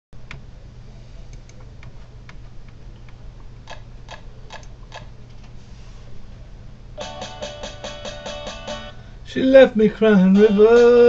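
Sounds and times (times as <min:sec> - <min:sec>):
low steady hum: 0:00.2 - 0:11.0.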